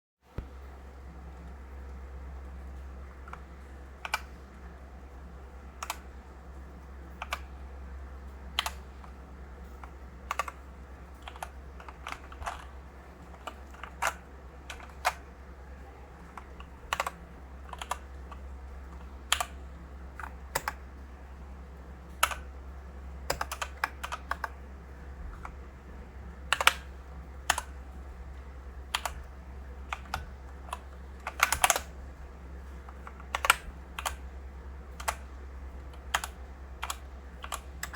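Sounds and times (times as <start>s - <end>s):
mechanical keyboard typing: 2.4s - 37.9s.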